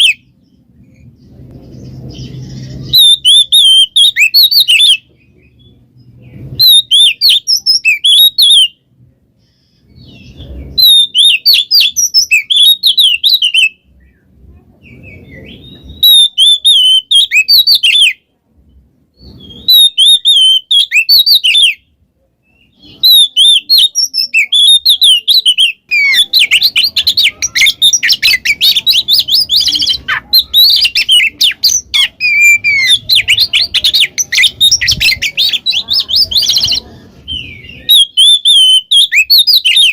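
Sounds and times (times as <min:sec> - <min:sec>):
bird singing whistled notes: 0:00.0 - 0:08.8, 0:09.9 - 0:14.2, 0:14.9 - 0:18.2, 0:19.2 - 0:21.8, 0:22.5 - 0:39.9.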